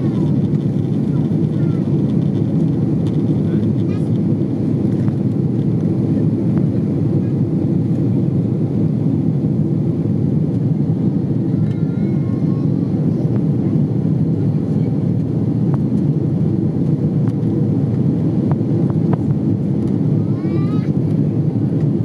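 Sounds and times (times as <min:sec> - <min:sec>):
jet engines in cabin: 0:00.0 - 0:22.0.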